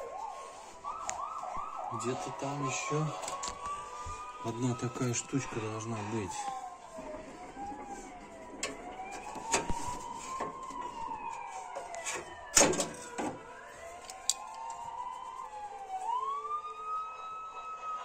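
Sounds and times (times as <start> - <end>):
wavering siren-like tone: 0.0 - 18.0.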